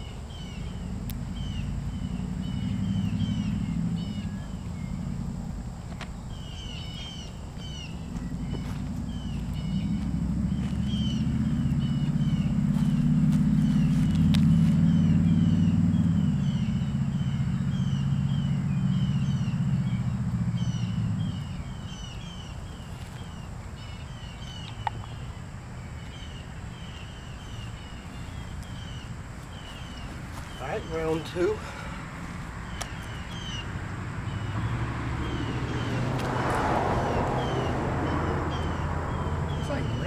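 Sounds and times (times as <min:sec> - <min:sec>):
small birds chirping: 0:00.0 - 0:40.0
vehicle engine rumble passing: 0:00.0 - 0:40.0.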